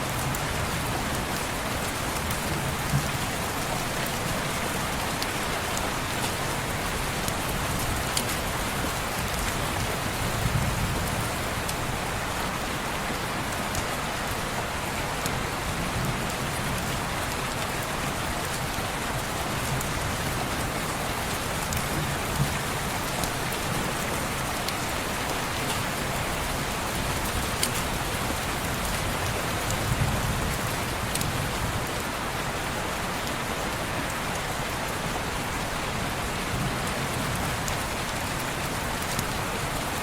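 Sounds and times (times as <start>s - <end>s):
sharp ticks of raindrops: 0.0s - 40.0s
rain on window glass: 0.1s - 40.0s.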